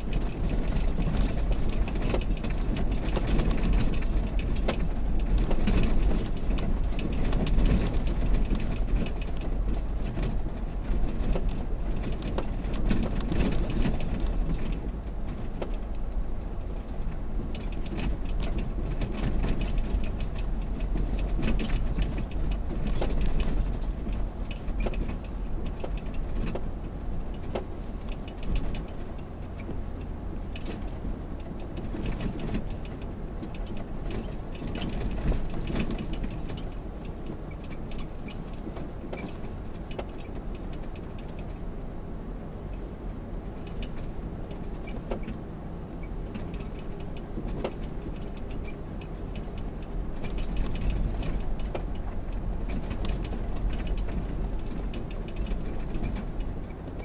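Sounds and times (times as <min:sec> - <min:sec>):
engine and tyres rumbling: 0:00.0 - 0:57.0
light rattles and ticks: 0:00.0 - 0:57.0.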